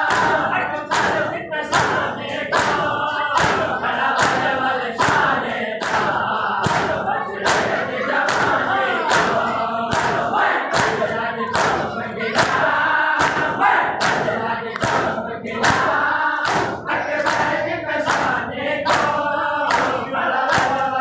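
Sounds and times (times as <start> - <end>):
hands slapping chests: 0.0 - 21.0
men chanting in unison: 0.0 - 21.0.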